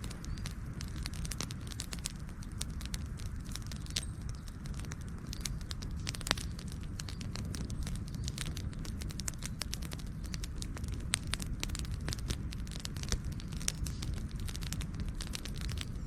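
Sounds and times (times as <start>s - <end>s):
low rumble of flames: 0.0s - 16.0s
wood crackling and snapping: 0.0s - 16.0s.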